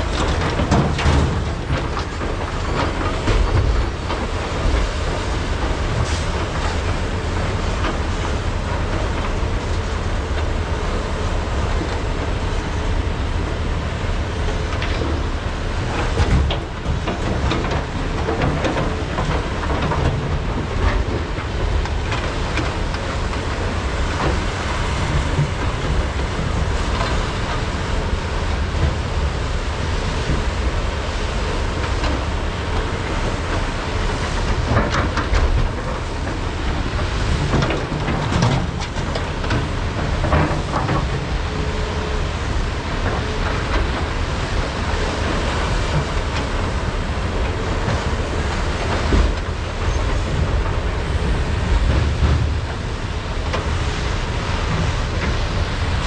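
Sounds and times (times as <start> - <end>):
heavy diesel excavators rumbling: 0.0 - 56.0.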